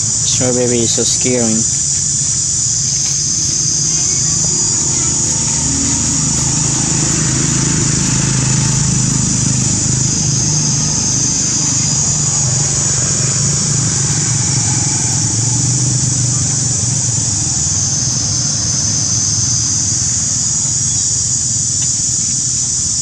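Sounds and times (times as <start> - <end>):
low hum: 0.0 - 22.1
high-pitched buzz: 0.0 - 23.0.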